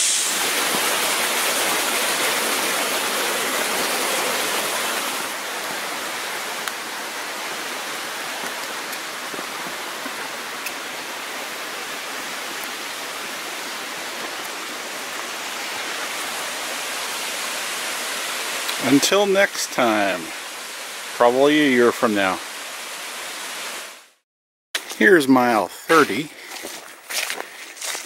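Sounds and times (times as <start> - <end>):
waterfall rushing: 0.0 - 24.1.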